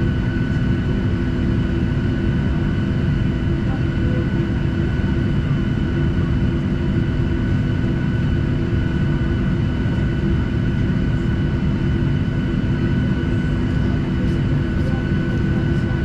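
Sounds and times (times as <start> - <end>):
jet engines idling: 0.0 - 16.0.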